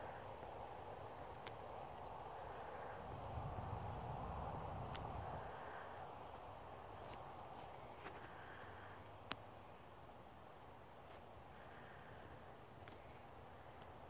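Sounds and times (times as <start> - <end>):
insect chorus trilling: 0.0 - 14.0.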